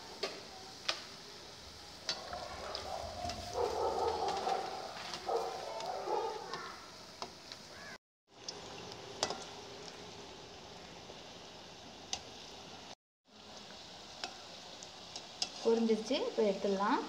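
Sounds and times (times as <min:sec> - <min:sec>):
batter deep-frying in hot oil: 0:00.0 - 0:17.0.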